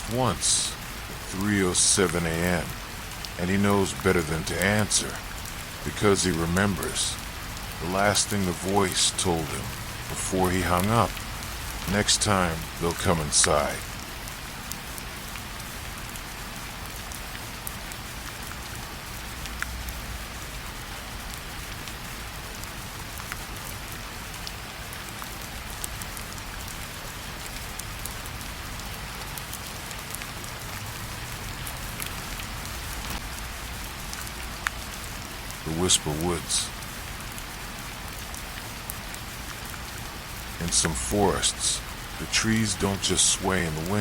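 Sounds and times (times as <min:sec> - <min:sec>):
sharp ticks of raindrops: 0:00.0 - 0:44.0
steady rainfall hiss: 0:00.0 - 0:44.0.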